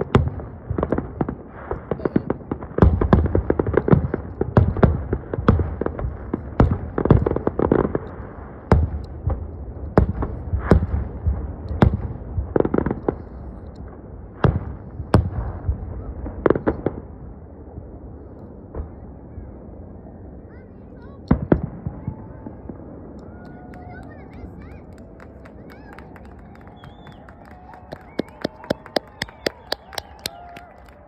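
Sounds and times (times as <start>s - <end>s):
fireworks bursting bangs: 0.0s - 17.8s, 21.0s - 31.0s.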